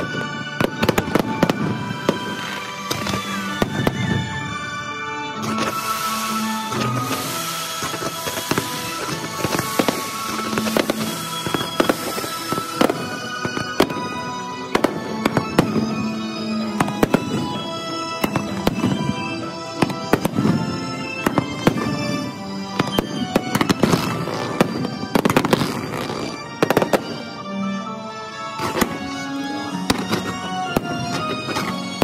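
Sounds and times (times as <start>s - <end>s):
fireworks bangs and crackles: 0.0s - 27.8s, 28.4s - 32.0s
music: 0.0s - 32.0s.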